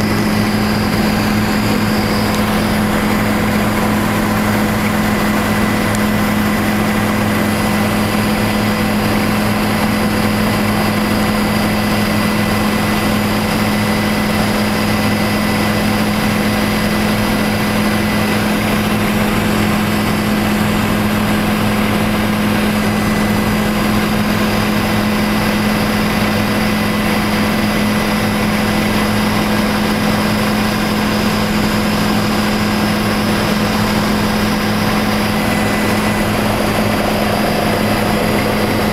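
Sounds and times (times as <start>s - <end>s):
helicopter drone from inside cabin: 0.0s - 38.9s.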